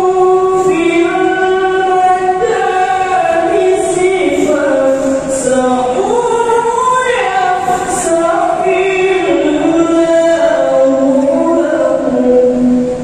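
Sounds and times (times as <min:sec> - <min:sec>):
choir singing over loudspeakers: 0:00.0 - 0:13.0.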